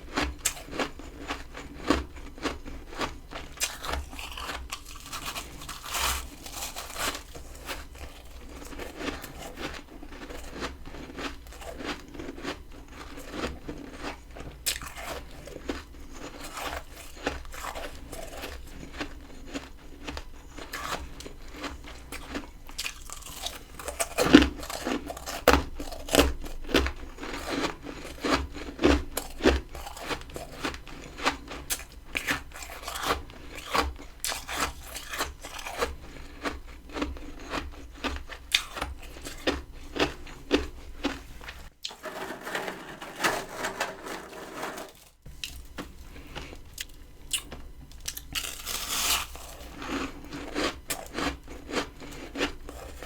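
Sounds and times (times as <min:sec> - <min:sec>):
chewing crunchy ice: 0:00.0 - 0:42.6, 0:43.2 - 0:53.0.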